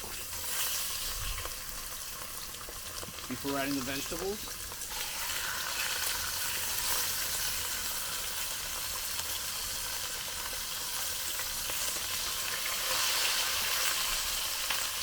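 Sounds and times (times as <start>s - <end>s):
chicken sizzling in a skillet: 0.0s - 15.0s.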